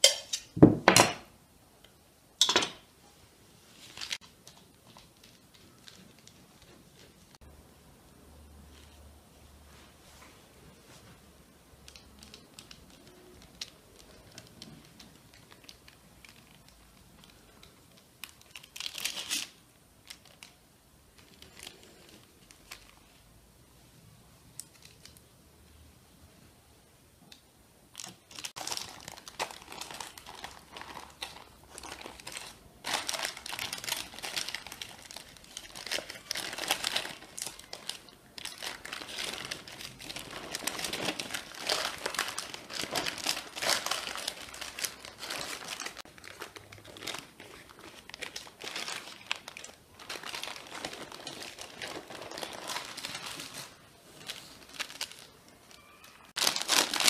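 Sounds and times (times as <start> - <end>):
wrapping crinkling and rustling: 3.6 - 7.5, 9.8 - 23.3, 24.5 - 25.2, 27.9 - 57.0.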